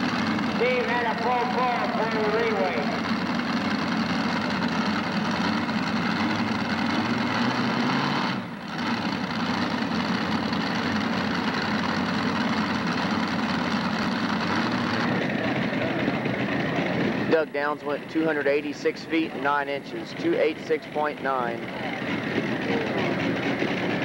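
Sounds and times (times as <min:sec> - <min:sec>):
tractor engines idling: 0:00.0 - 0:24.0.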